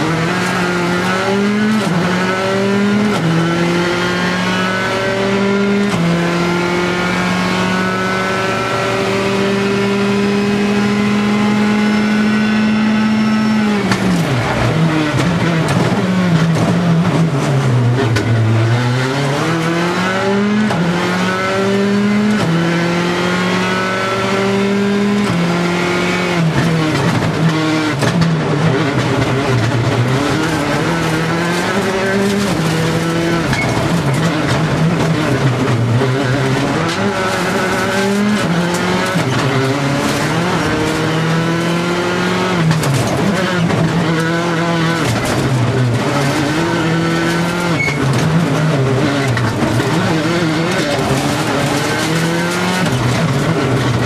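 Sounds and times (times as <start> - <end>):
rally car engine shifting gears: 0.0 - 54.0.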